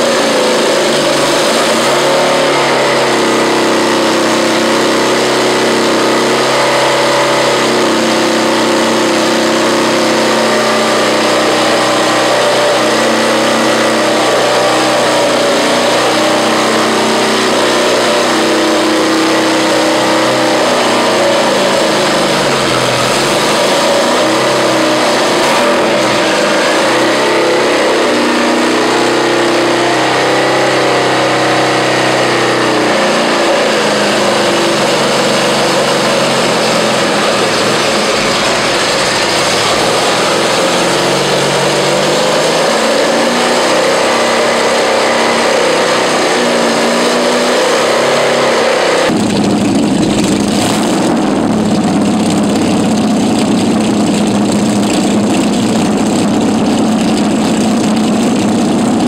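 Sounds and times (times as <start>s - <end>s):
rotary engine running: 0.0s - 30.2s, 31.9s - 48.3s, 49.0s - 59.0s.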